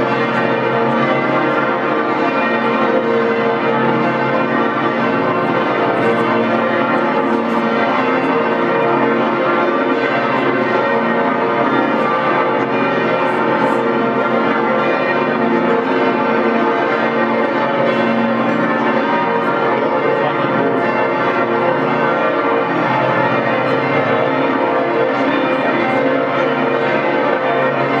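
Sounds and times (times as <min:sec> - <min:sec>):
church bells pealing: 0:00.0 - 0:28.0.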